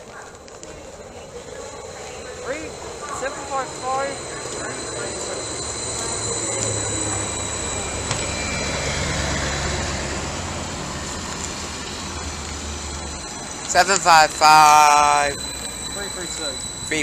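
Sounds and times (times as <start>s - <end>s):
high-pitched whine: 0.0s - 17.0s
train engine hum: 0.0s - 17.0s.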